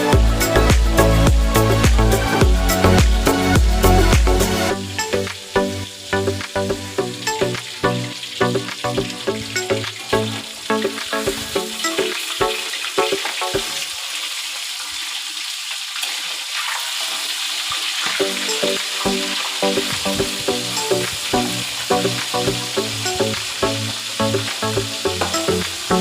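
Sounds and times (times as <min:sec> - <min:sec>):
background music with steady beat: 0:00.0 - 0:13.9, 0:18.1 - 0:26.0
food sizzling in a pan: 0:05.0 - 0:26.0.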